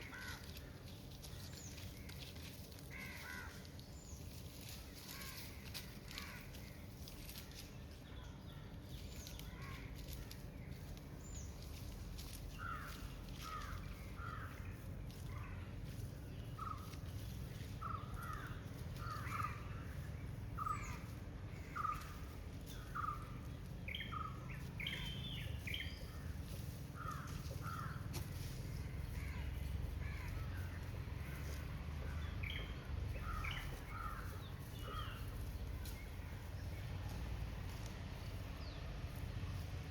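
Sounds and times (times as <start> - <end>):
birds calling: 0.0 - 39.9
low outdoor rumble: 0.0 - 39.9.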